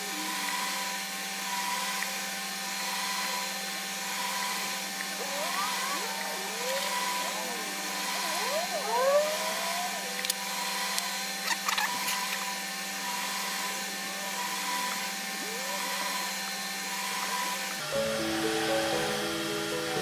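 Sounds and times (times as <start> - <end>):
machine whir: 0.0 - 20.0.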